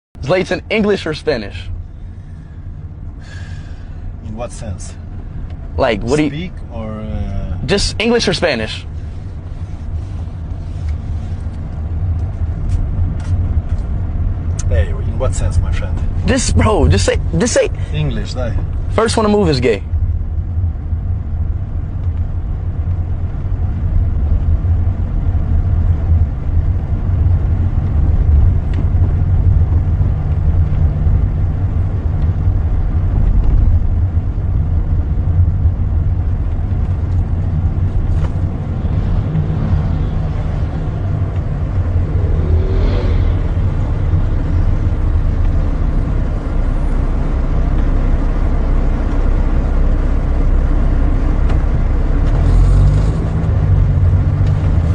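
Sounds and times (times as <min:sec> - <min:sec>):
car cabin road rumble: 0:00.2 - 0:54.9.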